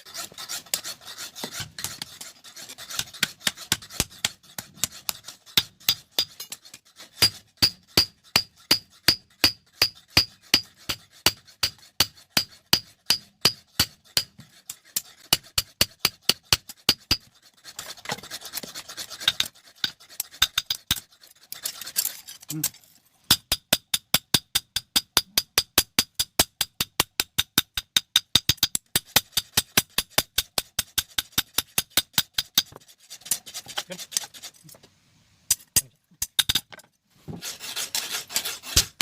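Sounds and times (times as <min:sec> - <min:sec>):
metal rasping and scraping: 0:00.0 - 0:34.9, 0:35.5 - 0:39.0.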